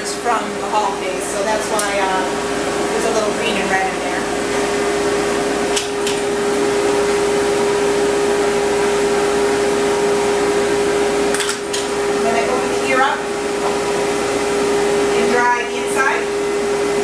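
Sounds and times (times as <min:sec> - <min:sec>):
pet dryer blowing air: 0:00.0 - 0:17.0.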